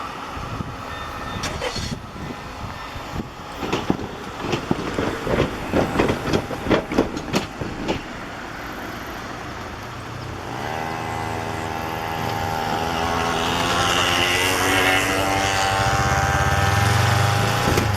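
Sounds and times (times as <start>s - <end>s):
train drone: 0.0s - 17.9s
train wheels clacking over rail joints: 1.1s - 17.9s.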